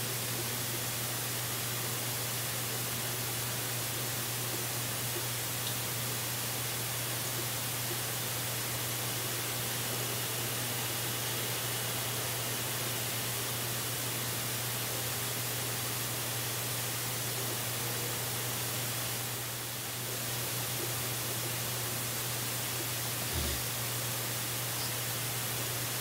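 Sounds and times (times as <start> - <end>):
steady microphone hiss: 0.0 - 26.0.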